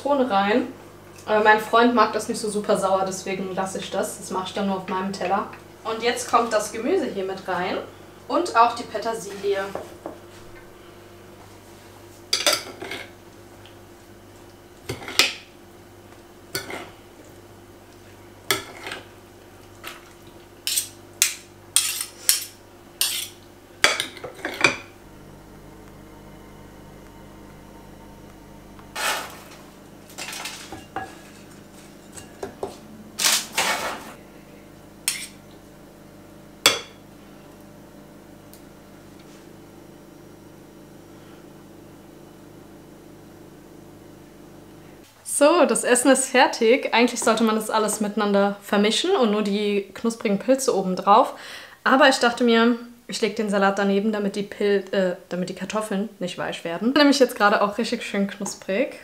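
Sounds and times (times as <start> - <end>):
refrigerator humming: 0.0 - 51.8.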